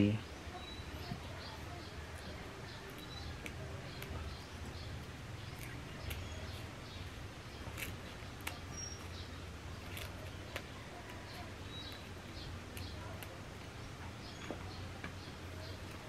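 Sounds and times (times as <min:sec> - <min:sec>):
faint bird chirps: 0:00.0 - 0:13.4
leaves plucked clicking: 0:02.1 - 0:16.0.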